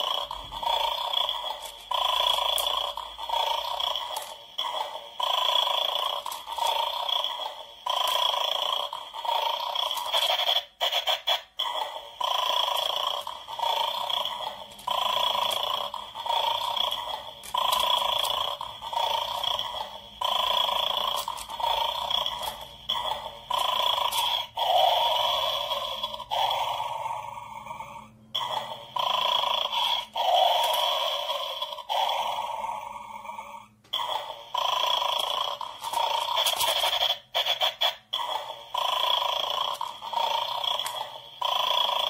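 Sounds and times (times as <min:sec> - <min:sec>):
recorded dog growling and snoring: 0:00.0 - 0:11.0, 0:11.6 - 0:42.0.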